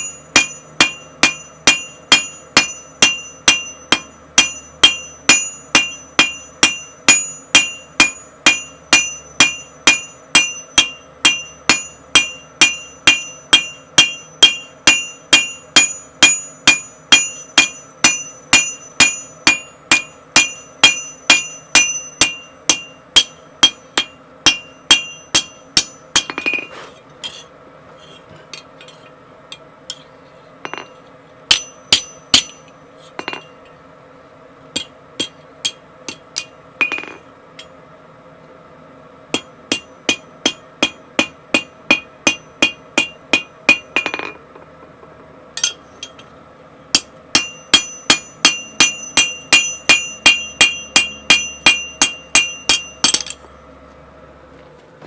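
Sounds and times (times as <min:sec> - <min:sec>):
hammer striking steel on anvil: 0:00.0 - 0:27.5, 0:28.6 - 0:33.8, 0:34.7 - 0:37.8, 0:39.3 - 0:44.4, 0:45.6 - 0:46.3, 0:46.9 - 0:53.5
low steady hum: 0:00.0 - 0:55.0.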